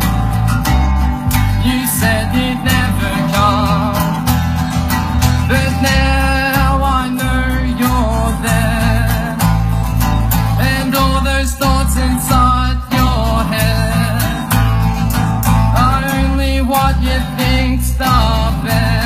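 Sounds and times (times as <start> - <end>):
live country band playing: 0.0 - 19.0.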